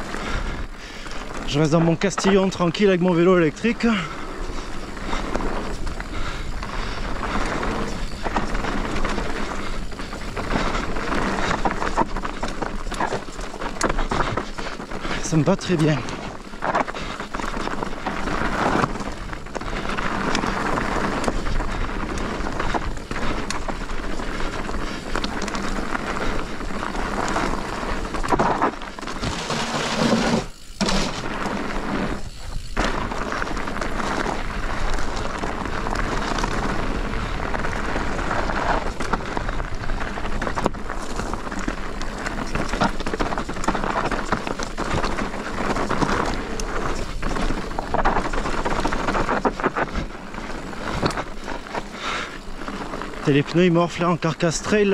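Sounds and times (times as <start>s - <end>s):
tyres rumbling on dirt: 0.0s - 54.9s
bike knocking and clattering: 4.6s - 54.9s.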